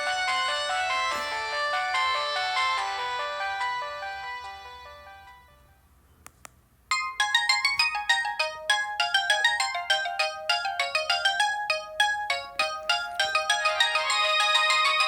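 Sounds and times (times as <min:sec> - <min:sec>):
fast bright ringtone melody: 0:00.0 - 0:05.6, 0:06.9 - 0:15.0
ringtone notes: 0:00.0 - 0:05.6, 0:06.9 - 0:15.0.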